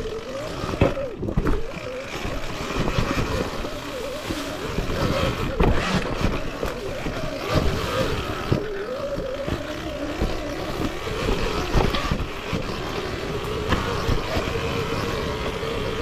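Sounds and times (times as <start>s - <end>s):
electric dirt bike motor whining: 0.0s - 16.0s.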